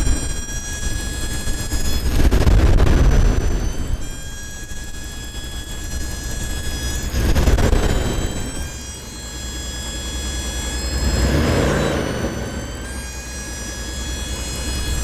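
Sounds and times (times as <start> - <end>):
high-pitched squeal: 0.0 - 15.0
truck engine rumble: 0.0 - 15.0.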